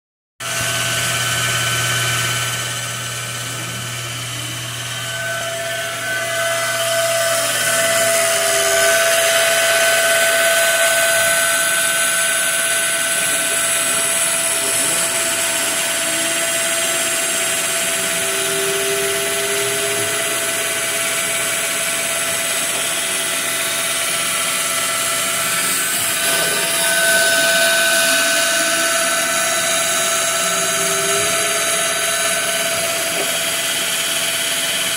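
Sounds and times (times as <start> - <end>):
end mill cutting wood: 0.4 - 34.9
machine spindle high whine: 0.4 - 34.9.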